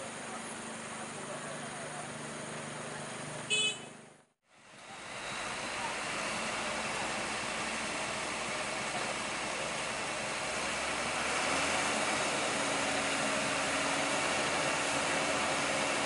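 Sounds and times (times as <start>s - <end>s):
truck diesel engine running: 0.0s - 16.0s.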